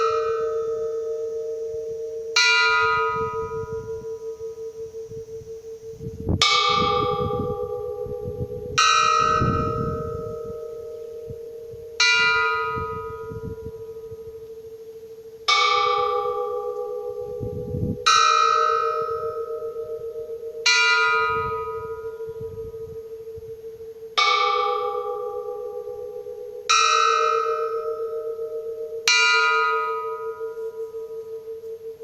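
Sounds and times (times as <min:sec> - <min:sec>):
church bell ringing: 0:00.0 - 0:32.0.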